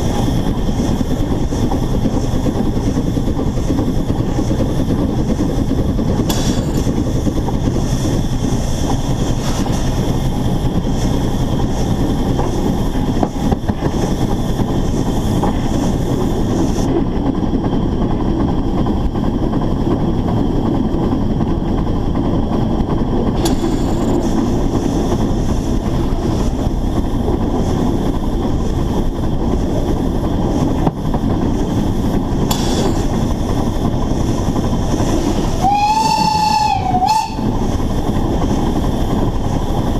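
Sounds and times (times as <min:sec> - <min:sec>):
steam locomotive running gear rumble: 0:00.0 - 0:39.9.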